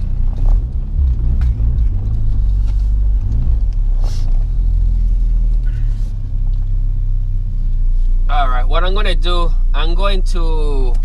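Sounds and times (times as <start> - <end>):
car engine rumble from cabin: 0.0 - 11.0.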